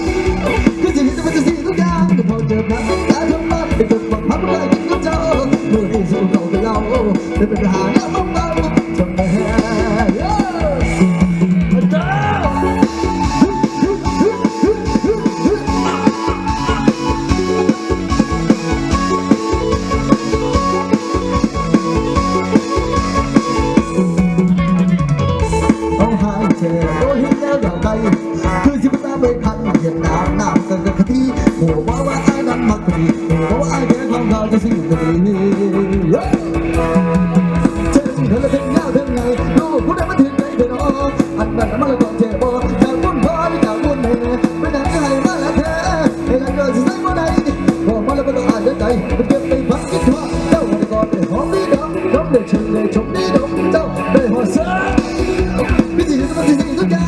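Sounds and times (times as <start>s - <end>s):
bass: 0.0s - 57.0s
fast drum kit beat: 0.0s - 57.0s
lead melody with bending notes: 0.0s - 57.0s.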